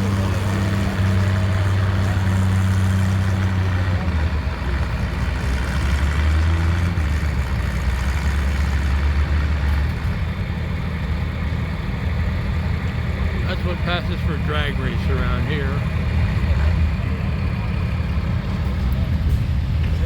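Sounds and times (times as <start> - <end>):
engine running with deep hum: 0.0 - 20.0.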